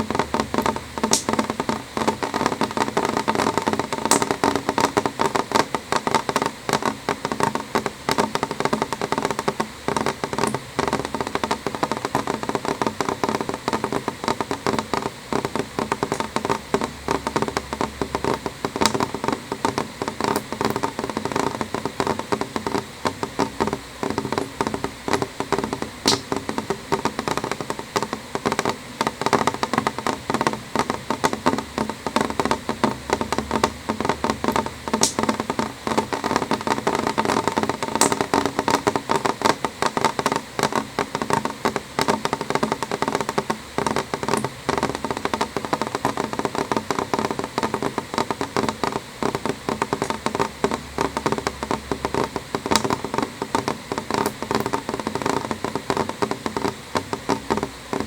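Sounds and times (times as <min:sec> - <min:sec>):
rain on a window pane: 0:00.0 - 0:58.0.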